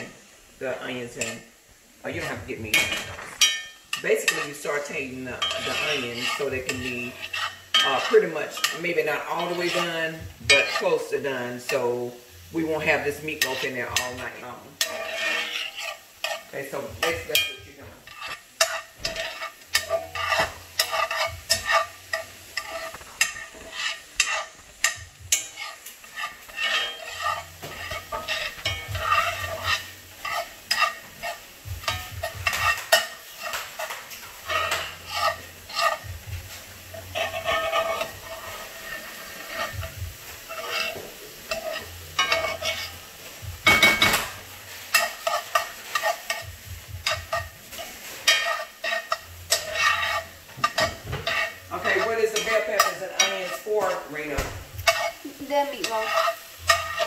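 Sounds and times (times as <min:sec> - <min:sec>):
metal spoon scraping skillet: 0:00.0 - 0:57.0
vegetables sizzling: 0:00.0 - 0:57.0.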